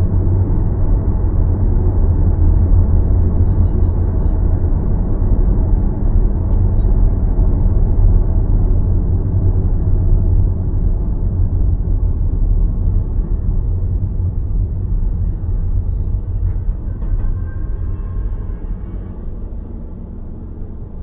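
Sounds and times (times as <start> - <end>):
road and tyre noise: 0.0 - 21.0.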